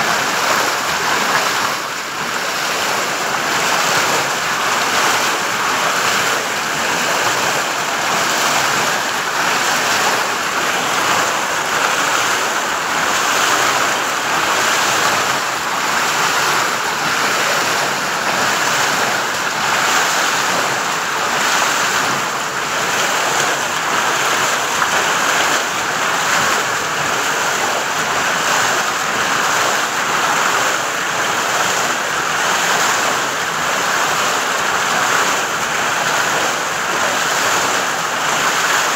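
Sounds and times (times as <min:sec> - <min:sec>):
water splashing through waterwheel: 0:00.0 - 0:38.9.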